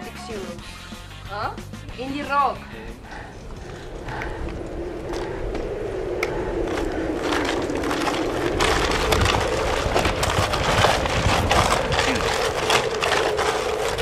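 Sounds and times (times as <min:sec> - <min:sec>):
steady drone: 0:01.3 - 0:14.0.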